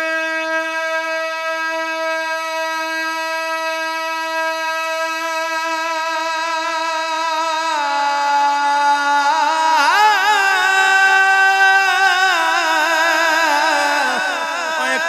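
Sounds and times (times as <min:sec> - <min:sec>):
man singing melodic passage: 0:00.1 - 0:15.0.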